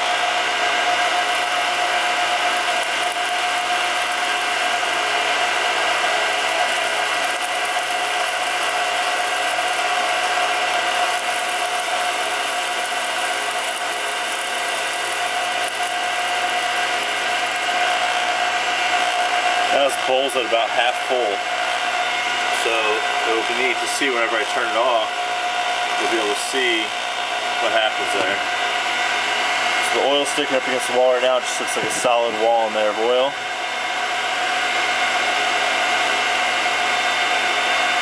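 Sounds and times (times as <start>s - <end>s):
centrifuge motor whirring: 0.0s - 38.0s.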